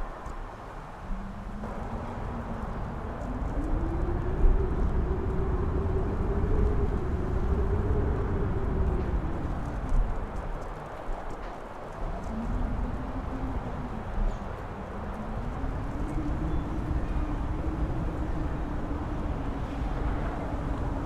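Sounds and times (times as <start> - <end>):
whistling wind tone: 0.0 - 21.0
wind gust howling: 0.0 - 21.0.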